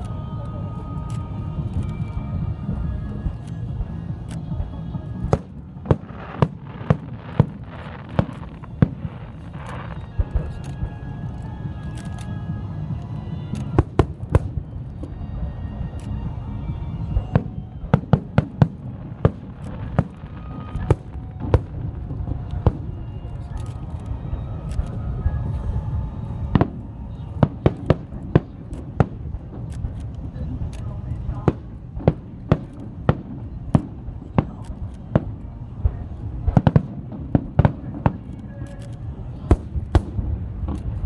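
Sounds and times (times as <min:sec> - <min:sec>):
low rumble: 0:00.0 - 0:41.0
fireworks bangs and cracks: 0:03.2 - 0:11.9, 0:13.6 - 0:15.9, 0:17.0 - 0:41.0.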